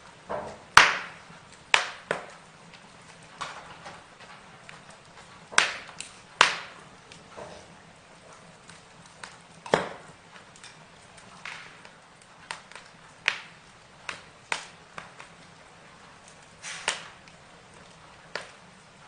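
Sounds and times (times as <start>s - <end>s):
burning wood crackling: 0.0s - 19.0s.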